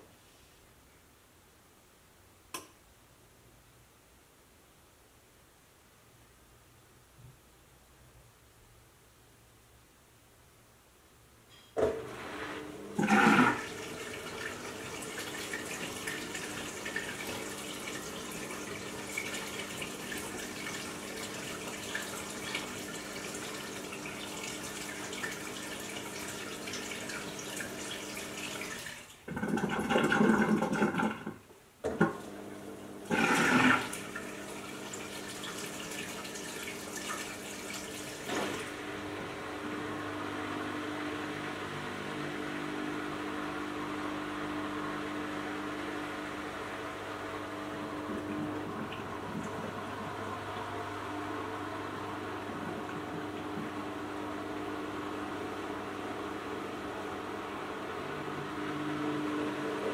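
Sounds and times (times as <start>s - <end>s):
washing machine motor hum: 11.8s - 59.9s
water swishing in washing machine: 11.8s - 59.9s.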